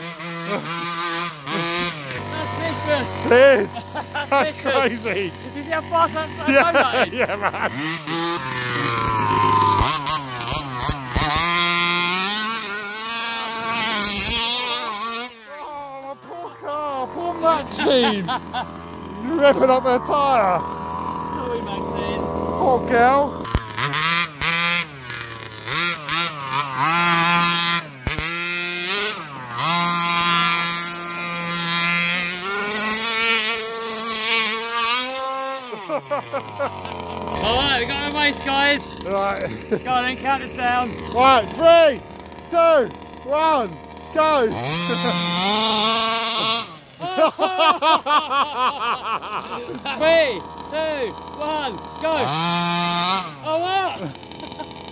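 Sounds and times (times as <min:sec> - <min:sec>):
rc buggy engine revving: 0:00.0 - 0:54.9.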